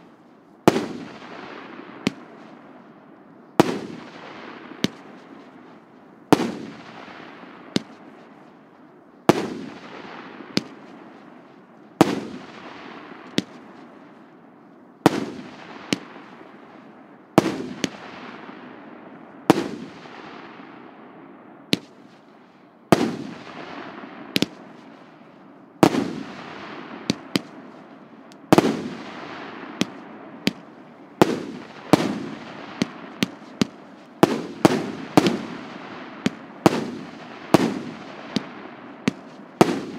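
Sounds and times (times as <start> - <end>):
firework bangs: 0.0 - 2.8, 3.6 - 8.5, 9.3 - 14.3, 15.0 - 16.8, 17.4 - 18.8, 19.4 - 21.0, 21.7 - 22.2, 22.9 - 39.9.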